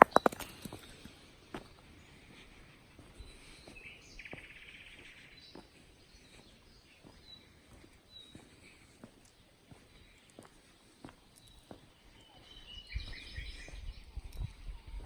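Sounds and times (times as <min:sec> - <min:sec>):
songbird trill: 0:00.0 - 0:15.0.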